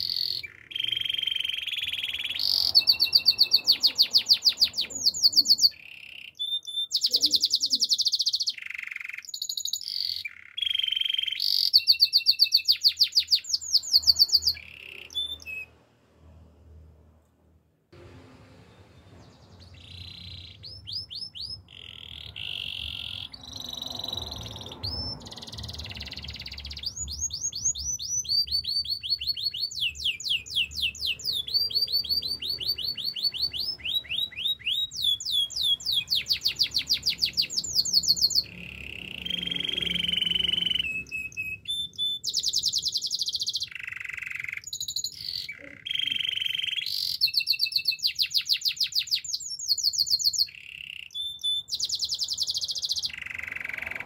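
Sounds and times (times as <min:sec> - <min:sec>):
canary singing trills: 0:00.0 - 0:15.8, 0:19.1 - 0:54.0.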